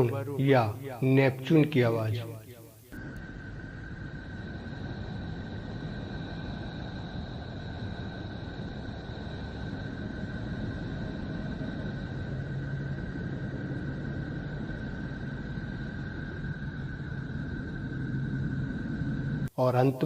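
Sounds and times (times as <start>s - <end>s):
faint high whistling tones: 0.0s - 20.0s
low hum: 0.0s - 20.0s
low rumbling hiss: 0.0s - 20.0s.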